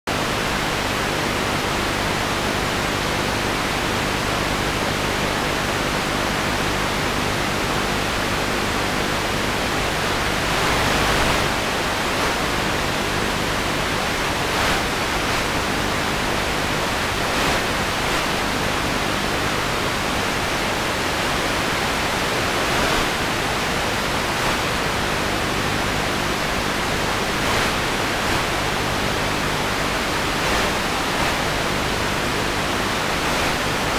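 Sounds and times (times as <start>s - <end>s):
static hiss: 0.1s - 33.9s.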